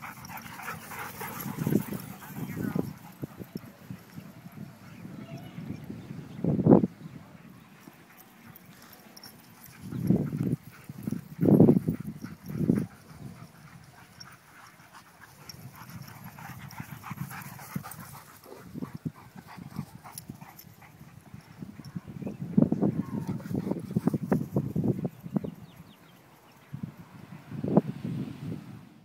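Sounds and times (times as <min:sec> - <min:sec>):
dogs panting: 0:00.0 - 0:05.0, 0:07.0 - 0:21.9, 0:23.1 - 0:26.7.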